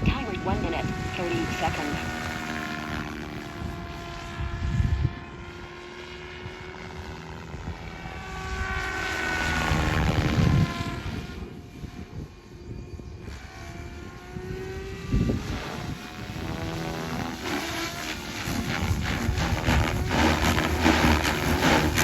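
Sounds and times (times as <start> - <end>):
rc helicopter rotor whine: 0.0 - 22.0.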